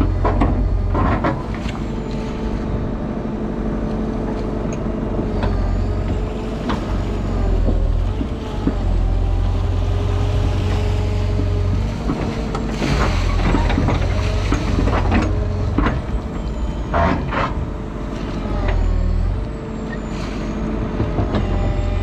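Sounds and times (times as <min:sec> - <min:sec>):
digger engine and hydraulics: 0:00.0 - 0:22.0.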